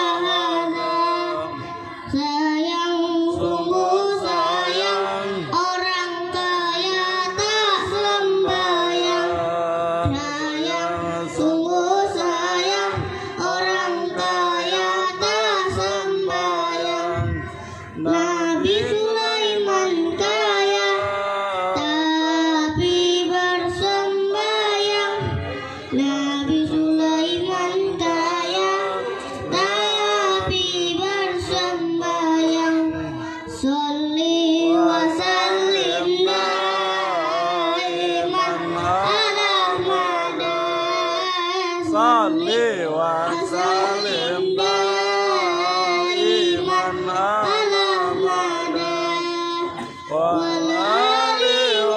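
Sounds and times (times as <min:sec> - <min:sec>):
boy singing into a microphone: 0:00.0 - 0:51.9.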